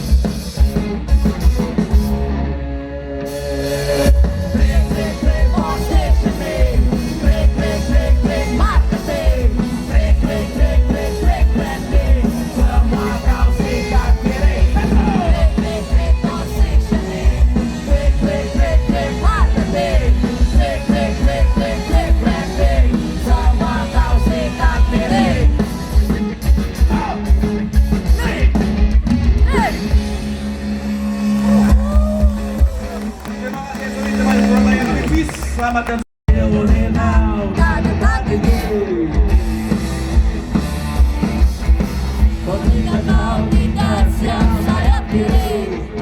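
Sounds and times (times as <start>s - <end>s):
loud rock band music: 0.0s - 46.0s.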